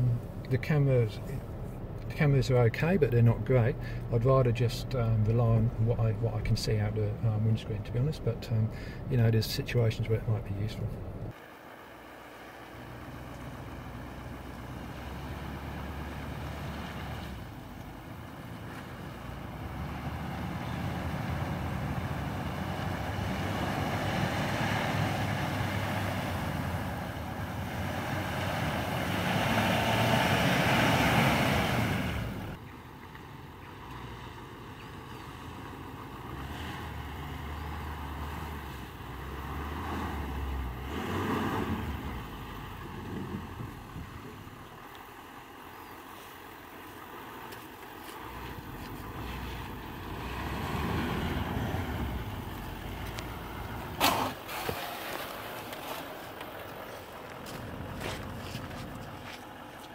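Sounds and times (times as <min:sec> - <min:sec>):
suv engine working: 0:00.0 - 0:59.9.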